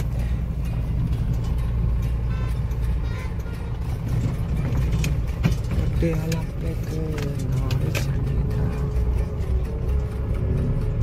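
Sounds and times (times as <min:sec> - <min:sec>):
diesel engine cabin rumble: 0:00.0 - 0:11.0.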